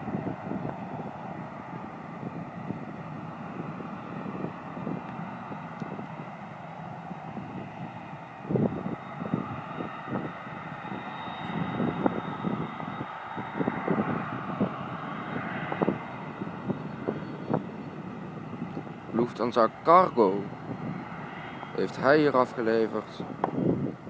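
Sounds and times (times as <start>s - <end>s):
jet engines running: 0.0s - 24.0s
wind buffeting microphone: 0.0s - 24.0s.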